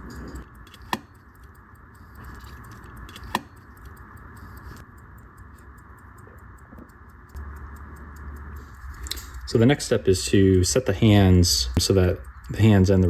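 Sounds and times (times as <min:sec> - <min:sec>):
sharp click: 0:00.0 - 0:13.0
watch ticking faintly: 0:00.0 - 0:13.0.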